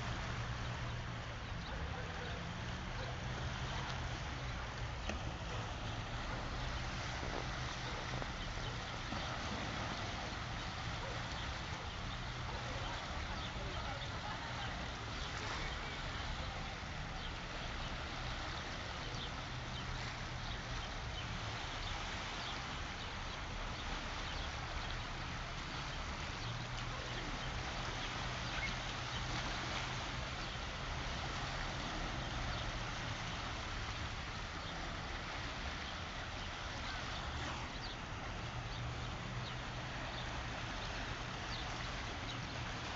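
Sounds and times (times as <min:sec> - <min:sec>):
sea waves washing: 0:00.0 - 0:42.9.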